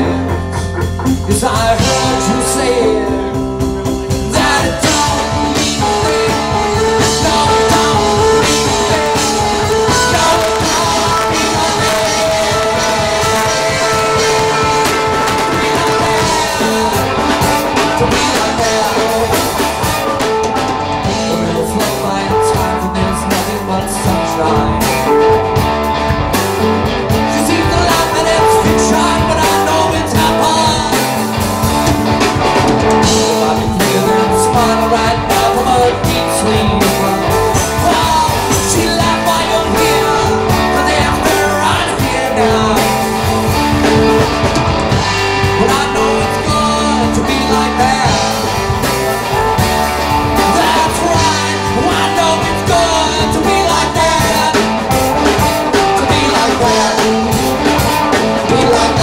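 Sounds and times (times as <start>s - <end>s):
bass guitar: 0.0s - 59.0s
drum kit: 0.0s - 59.0s
electric guitar: 0.0s - 59.0s
person singing: 0.0s - 59.0s.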